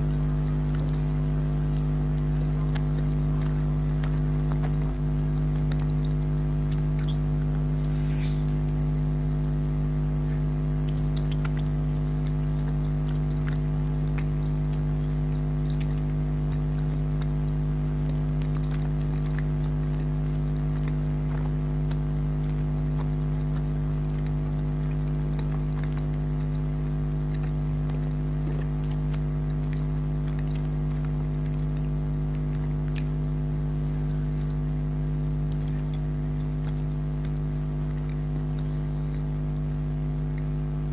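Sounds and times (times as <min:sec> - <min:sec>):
jelly being chewed: 0:00.0 - 0:40.9
low hum of fixed tones: 0:00.0 - 0:40.9.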